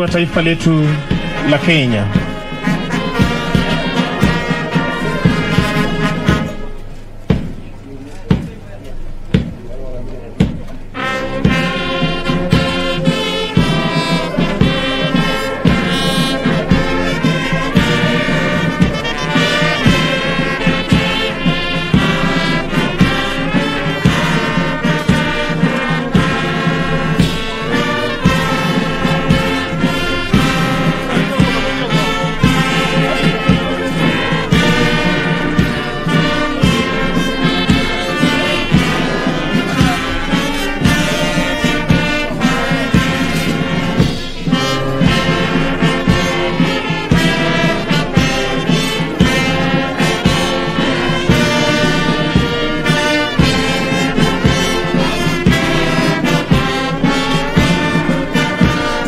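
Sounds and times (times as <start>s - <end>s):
brass band playing a march: 0.0s - 59.0s
drum beat: 0.0s - 59.0s.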